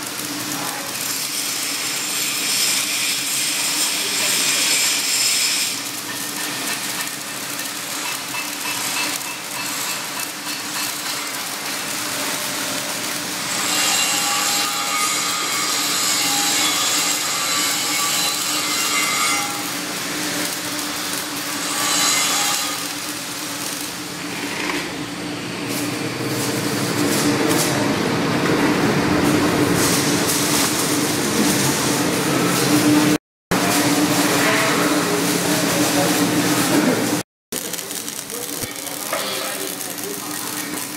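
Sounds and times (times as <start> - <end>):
welding arc crackle: 0.0 - 28.0, 28.6 - 40.9.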